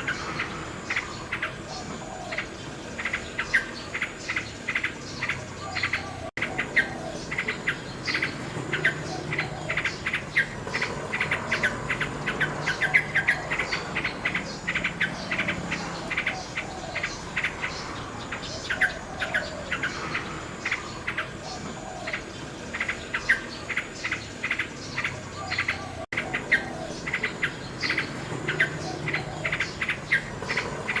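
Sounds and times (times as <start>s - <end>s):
nightingale singing: 0.0s - 31.0s.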